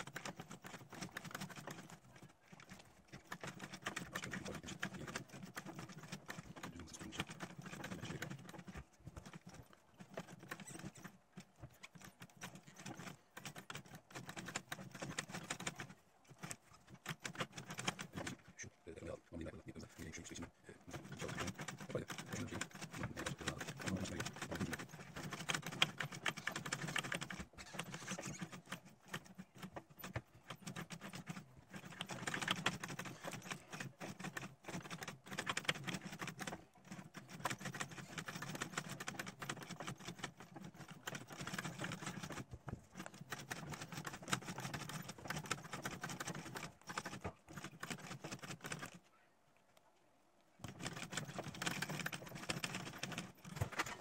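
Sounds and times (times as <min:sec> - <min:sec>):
sewing machine stitching: 0:00.0 - 0:49.0, 0:50.6 - 0:54.0.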